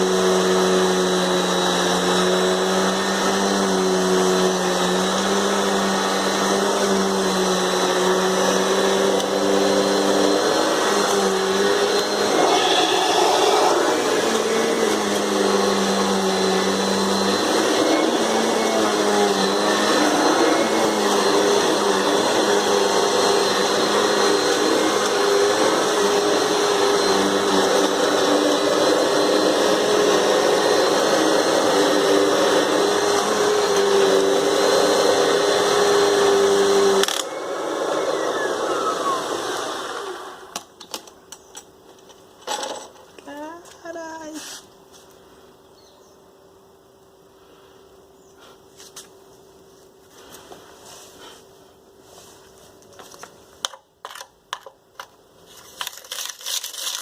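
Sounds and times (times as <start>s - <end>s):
vacuum cleaner running: 0.0s - 41.0s, 46.9s - 54.2s.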